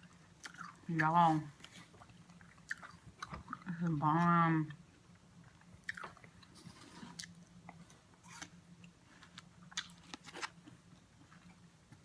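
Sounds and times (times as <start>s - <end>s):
close-up chewing: 0.0s - 12.0s
faint steady hum: 0.0s - 12.0s.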